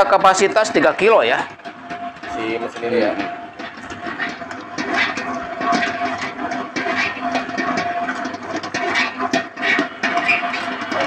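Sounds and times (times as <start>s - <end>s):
stand mixer motor hum: 0.0s - 11.0s
dough knocking against bowl: 0.1s - 11.0s.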